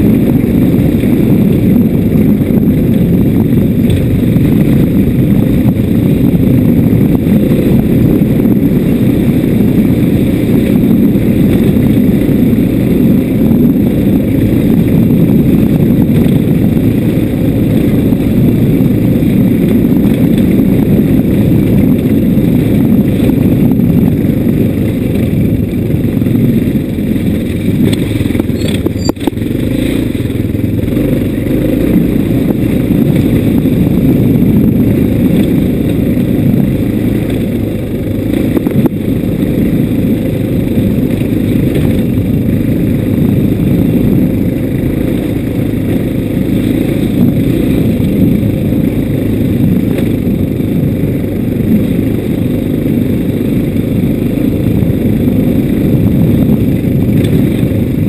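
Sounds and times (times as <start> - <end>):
motorbike running over ruts: 0.0 - 58.0
wind rumbling on microphone: 0.0 - 58.0.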